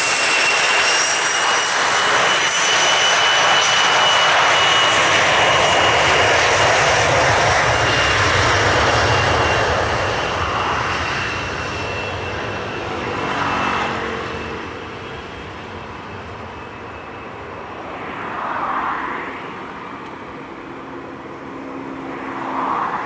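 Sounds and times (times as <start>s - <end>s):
jet engine roar with turbine whine: 0.0s - 23.0s.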